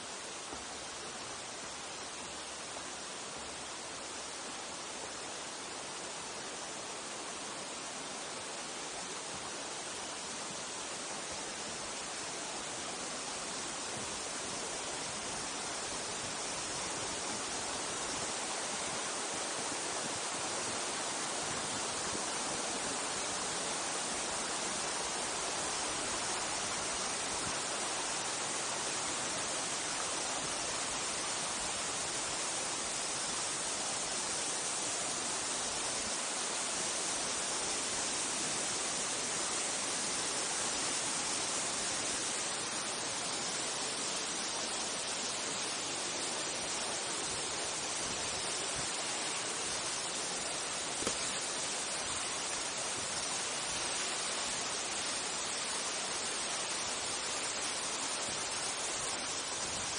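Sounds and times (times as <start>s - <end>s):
small waterfall rushing: 0.0s - 59.9s
stream splashing over rocks: 0.0s - 59.9s.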